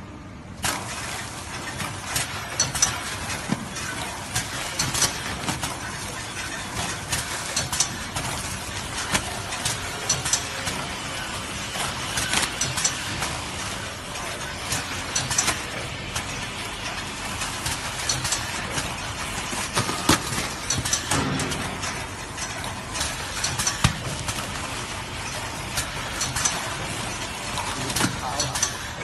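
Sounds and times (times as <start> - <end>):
packaging machine humming and clattering: 0.5 - 29.0.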